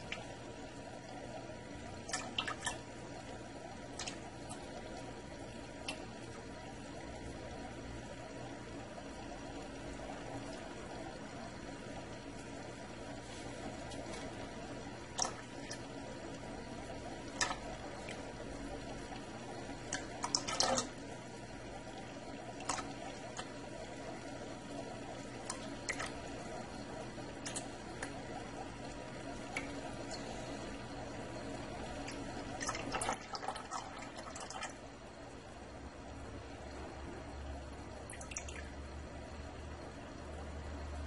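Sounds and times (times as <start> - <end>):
gravel clicking in siphon: 0.0 - 34.8
water trickling through siphon tube: 0.0 - 39.0.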